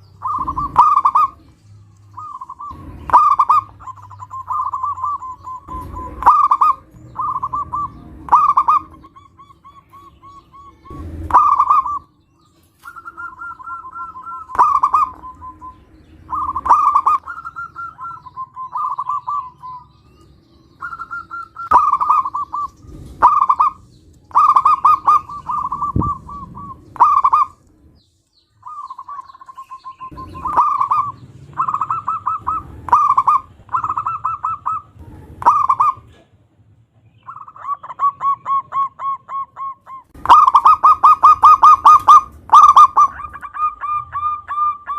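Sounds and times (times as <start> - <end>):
dove cooing: 0.0 - 1.5, 2.2 - 27.9, 28.6 - 36.3, 37.2 - 44.9.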